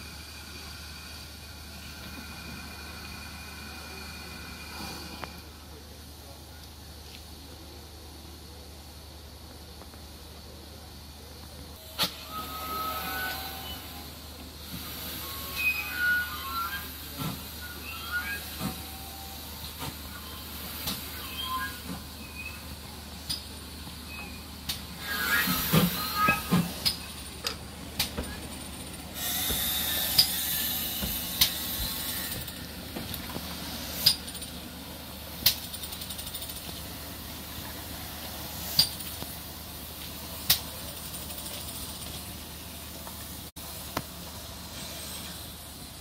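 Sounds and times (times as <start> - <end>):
steam hissing: 0.0 - 5.7, 11.8 - 46.0
steam locomotive moving slowly: 0.0 - 46.0.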